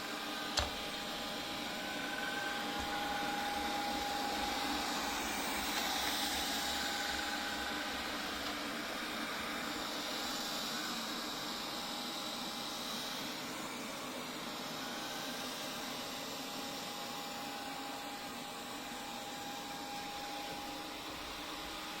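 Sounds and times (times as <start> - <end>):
robot vacuum cleaner whirring: 0.0 - 22.0.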